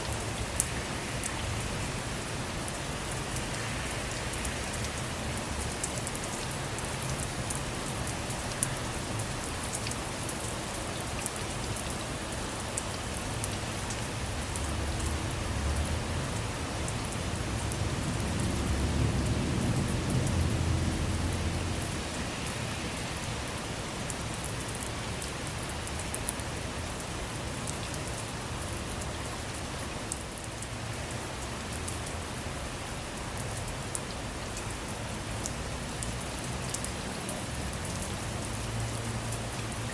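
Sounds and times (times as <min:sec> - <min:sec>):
rain drops tapping: 0:00.0 - 0:39.9.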